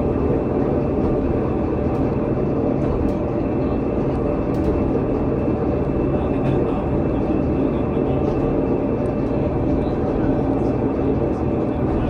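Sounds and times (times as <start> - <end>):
railcar running gear rumble: 0.0 - 12.0.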